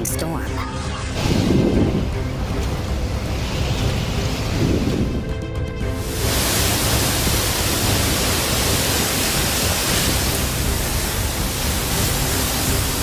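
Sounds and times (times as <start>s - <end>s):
floodwater rushing: 0.9s - 13.0s.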